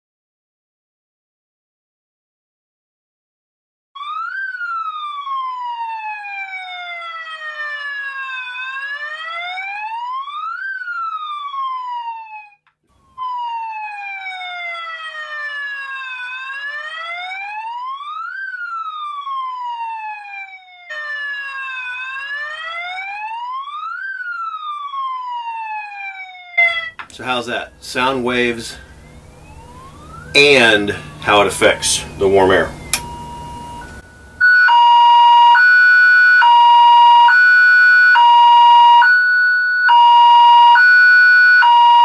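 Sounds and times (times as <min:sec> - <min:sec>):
wailing siren-like tone: 0:04.0 - 0:42.0.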